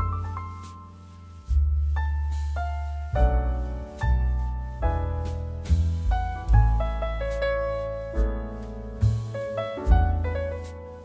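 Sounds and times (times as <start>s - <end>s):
deep bass note: 0.0s - 11.0s.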